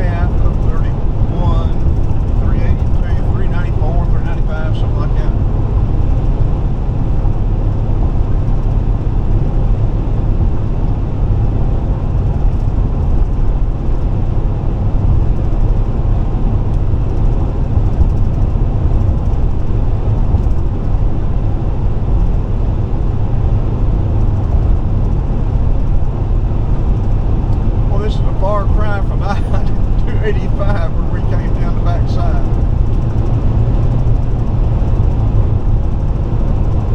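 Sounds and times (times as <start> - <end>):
car road noise at highway speed: 0.0 - 36.9.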